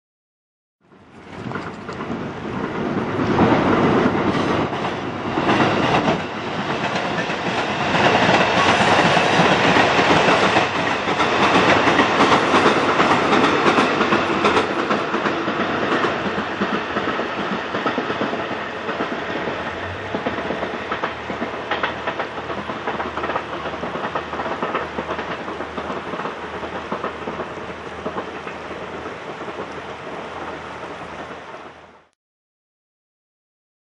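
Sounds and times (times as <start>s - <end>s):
diesel train running on rails: 0.8s - 32.1s.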